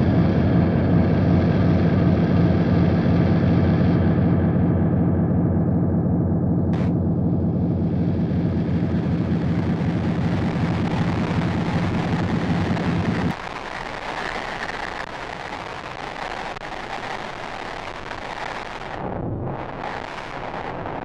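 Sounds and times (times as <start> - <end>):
droning noise music: 0.0 - 21.0.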